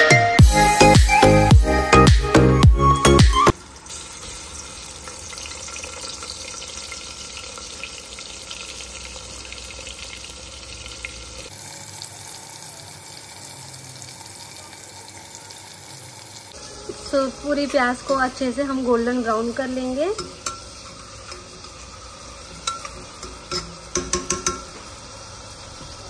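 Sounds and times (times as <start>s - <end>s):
onions sizzling in oil: 3.5s - 26.0s.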